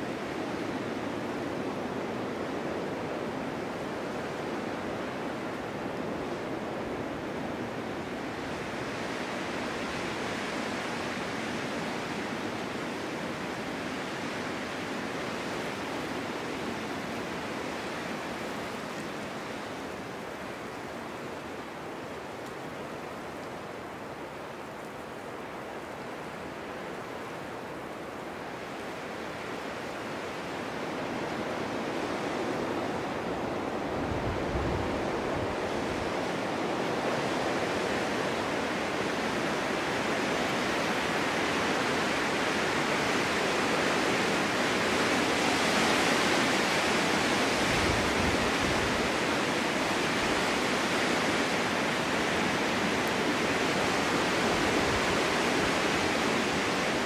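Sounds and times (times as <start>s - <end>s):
snowstorm wind blowing: 0.0s - 57.0s.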